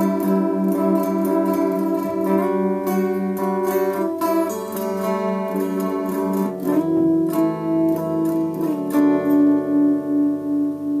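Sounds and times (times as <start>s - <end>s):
guitar ringing chords: 0.0s - 11.0s.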